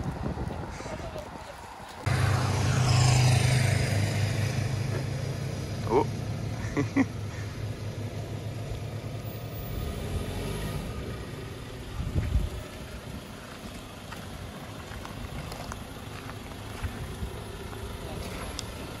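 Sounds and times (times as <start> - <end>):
engine running at low revs: 2.0 - 19.0.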